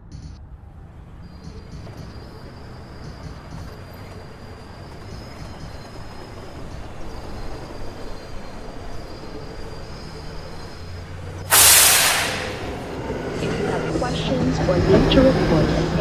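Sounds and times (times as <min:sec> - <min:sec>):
subway train rumbling: 0:00.0 - 0:16.0
air brakes hissing: 0:01.5 - 0:16.0.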